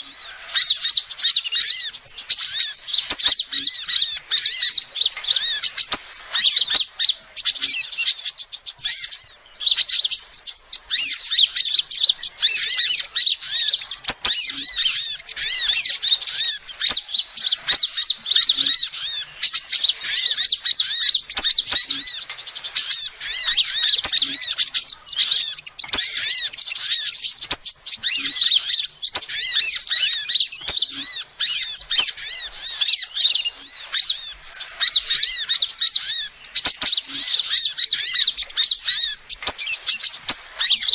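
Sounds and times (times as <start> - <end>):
bird twittering: 0.0 - 40.9.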